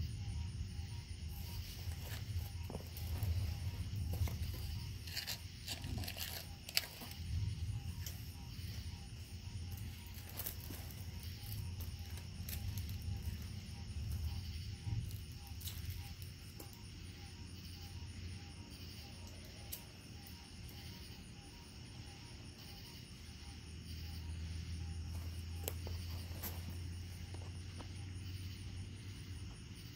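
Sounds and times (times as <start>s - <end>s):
night insects chirping: 0.0s - 29.9s.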